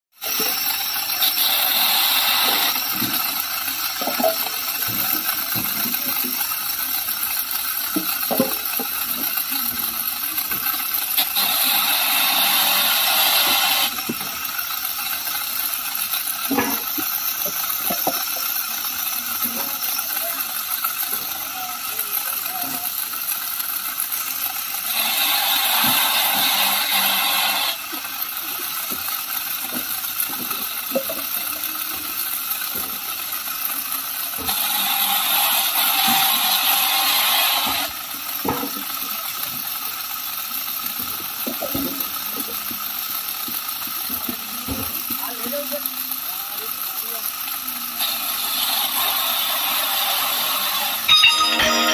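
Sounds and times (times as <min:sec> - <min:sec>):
saw cutting through log: 0:00.1 - 0:51.9
saw running freely: 0:00.1 - 0:51.9.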